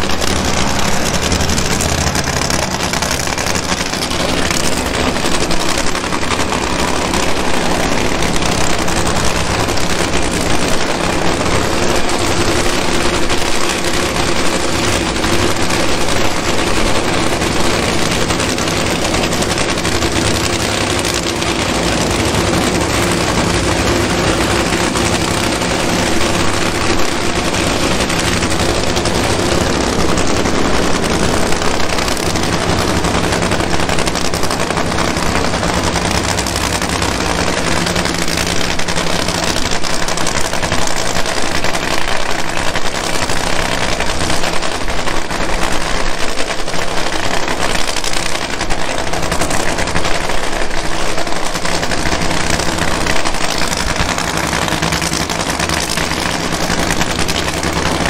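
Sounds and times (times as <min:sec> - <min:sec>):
drag racing engine crackling: 0:00.0 - 0:58.0.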